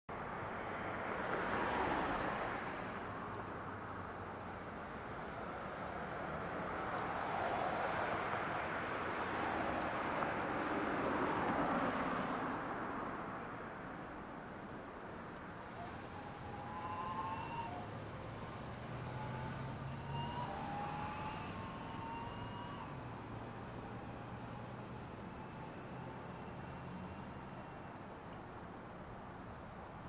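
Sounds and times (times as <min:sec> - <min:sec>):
road traffic passing: 0:00.1 - 0:30.0.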